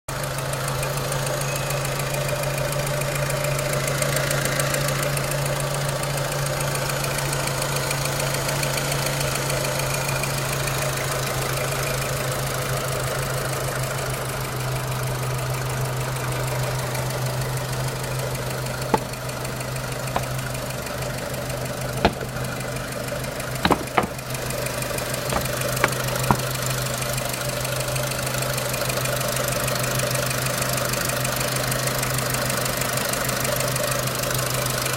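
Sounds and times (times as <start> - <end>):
car engine idling with knocking: 0.1 - 34.9.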